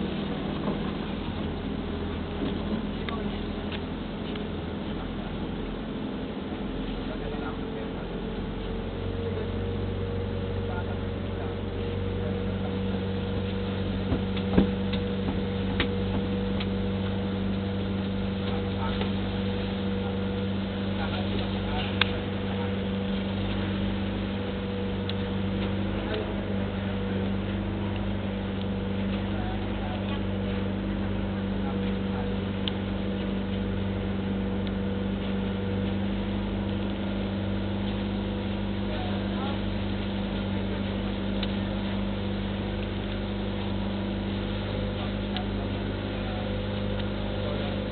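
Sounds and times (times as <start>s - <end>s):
boat engine droning chug: 0.0s - 47.9s
constant hiss: 0.0s - 47.9s.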